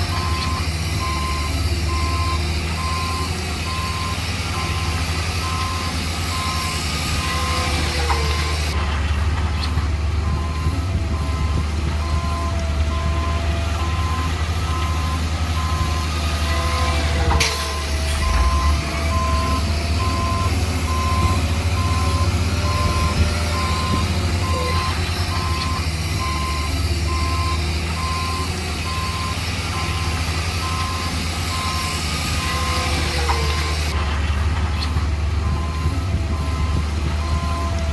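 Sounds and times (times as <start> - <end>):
diesel engine rumble: 0.0 - 37.9
reversing alarm beeps: 0.1 - 8.8, 10.2 - 33.8, 35.5 - 37.8.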